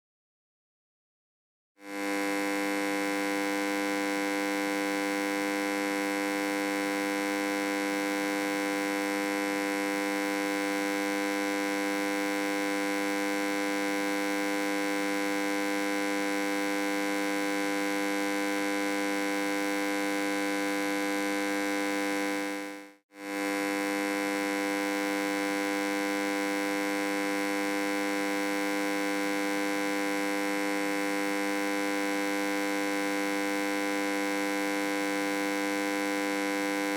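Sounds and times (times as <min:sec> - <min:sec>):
electric buzzing hum: 0:01.8 - 0:22.6, 0:23.2 - 0:36.9.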